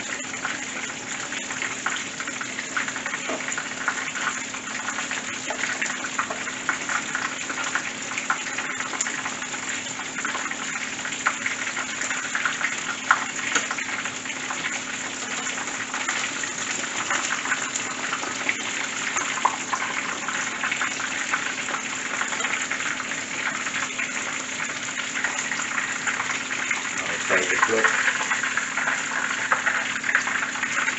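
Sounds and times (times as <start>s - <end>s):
fish sizzling in hot oil: 0.0s - 30.9s.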